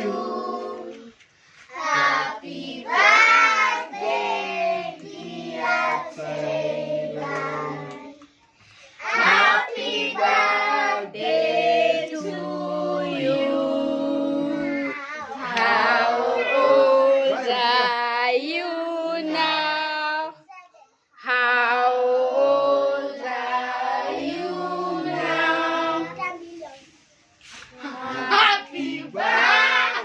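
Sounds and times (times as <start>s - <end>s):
group singing a celebration song: 0.0s - 20.3s, 21.2s - 30.0s.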